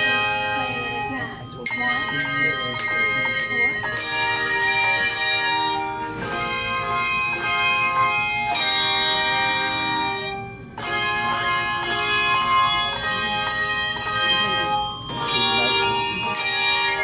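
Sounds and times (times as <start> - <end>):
handbell choir playing: 0.0 - 17.0.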